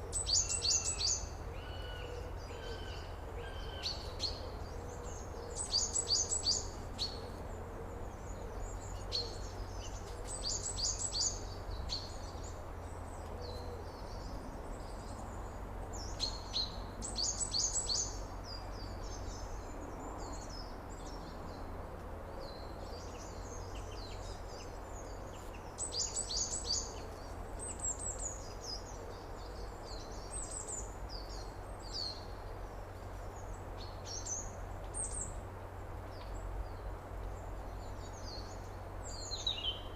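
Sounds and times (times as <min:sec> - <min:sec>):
birds singing and chirping: 0:00.0 - 0:21.6, 0:22.4 - 0:35.4, 0:36.2 - 0:39.9.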